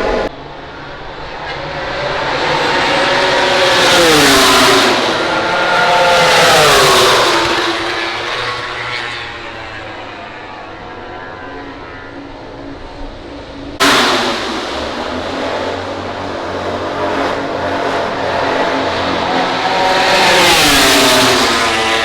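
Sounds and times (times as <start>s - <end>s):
motorcycle passing close: 0.0s - 12.9s, 13.6s - 22.0s
racing motorcycles at high revs: 1.3s - 12.1s, 13.4s - 22.0s.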